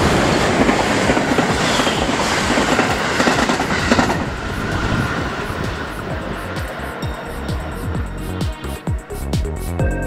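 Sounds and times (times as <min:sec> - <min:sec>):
train wheels clattering past: 0:00.0 - 0:08.1.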